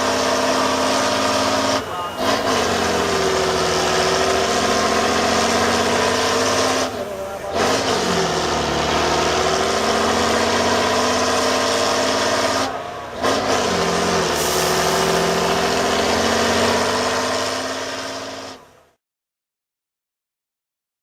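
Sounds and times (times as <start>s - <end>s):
truck engine under load: 0.0s - 18.9s.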